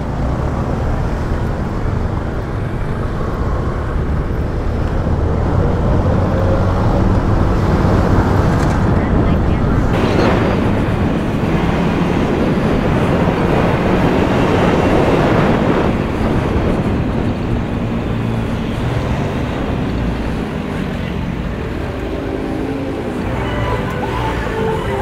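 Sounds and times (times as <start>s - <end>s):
motorcycle engine hum: 0.0s - 25.0s
tyres on road: 0.0s - 25.0s
wind rush on microphone: 0.0s - 25.0s.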